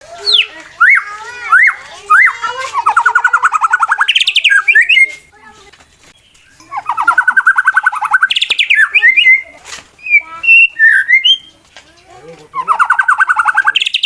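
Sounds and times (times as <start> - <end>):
bird singing whistled notes: 0.2 - 5.3, 6.1 - 11.6, 12.5 - 14.0.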